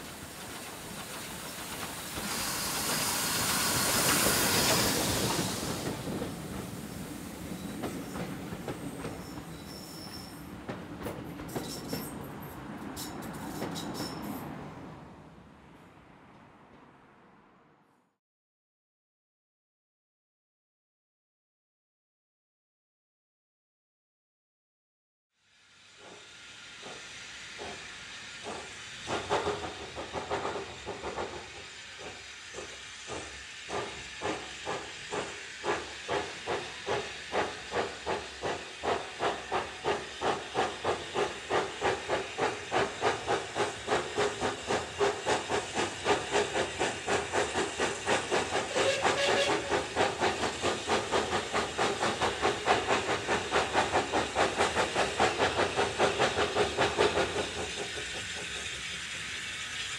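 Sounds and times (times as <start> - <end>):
hiss of steam: 0.0 - 14.6, 25.4 - 59.9
steam locomotive exhaust beats: 0.0 - 14.6, 25.6 - 59.9.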